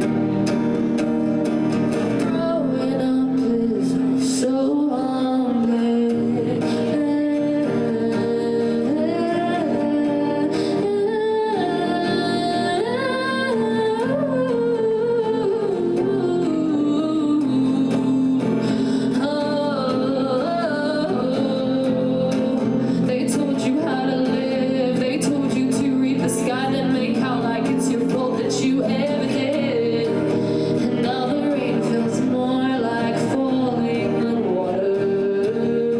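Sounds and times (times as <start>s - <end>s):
plucked string accompaniment: 0.0s - 35.9s
woman singing: 0.0s - 35.9s.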